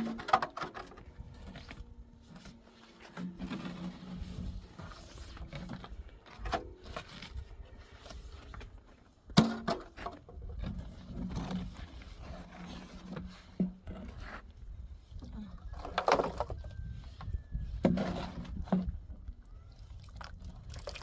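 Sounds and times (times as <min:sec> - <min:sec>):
knocks and scrapes: 0:00.0 - 0:19.3.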